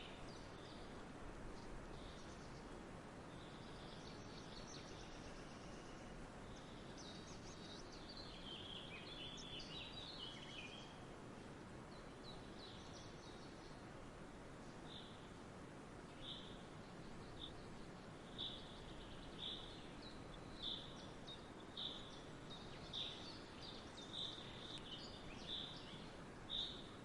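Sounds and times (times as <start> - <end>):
faint birds chirping: 0.0 - 27.0
steady background hiss: 0.0 - 27.0.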